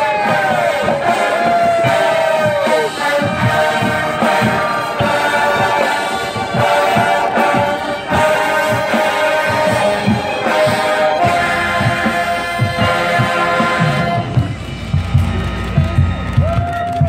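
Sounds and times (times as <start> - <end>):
brass section loud chords: 0.0 - 16.6
steady drum beat: 0.0 - 17.0.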